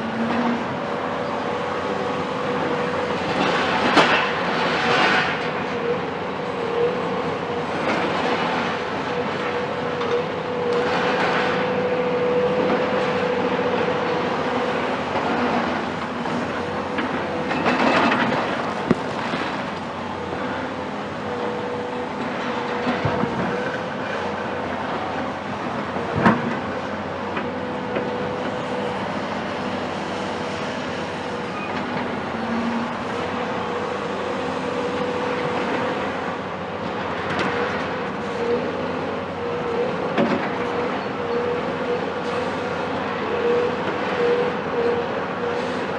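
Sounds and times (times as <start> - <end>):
excavator diesel engine under load: 0.0 - 45.9.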